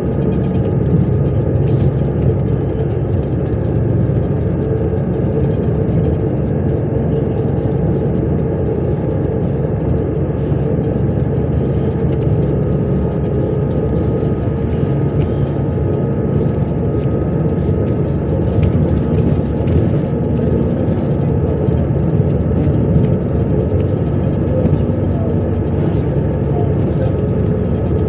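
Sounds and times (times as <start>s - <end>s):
bus engine drone: 0.0s - 28.0s
tyre and road noise: 0.0s - 28.0s.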